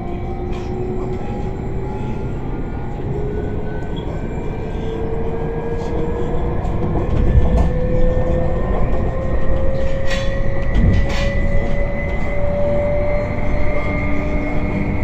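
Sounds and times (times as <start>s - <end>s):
electric train accelerating: 0.0s - 15.0s
traction motor whine: 0.0s - 15.0s.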